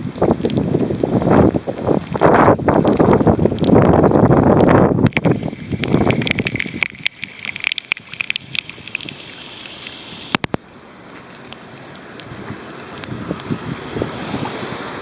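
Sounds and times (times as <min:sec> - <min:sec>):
wind buffeting microphone: 0:00.0 - 0:10.6, 0:12.1 - 0:15.0
heavy rain on flooded street: 0:00.0 - 0:15.0.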